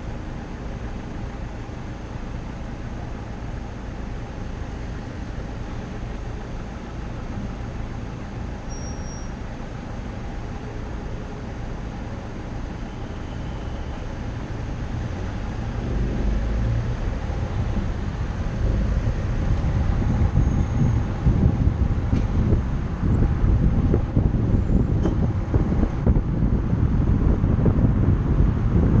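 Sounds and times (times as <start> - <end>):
car engine rumble: 0.0 - 29.0
road noise: 0.0 - 29.0.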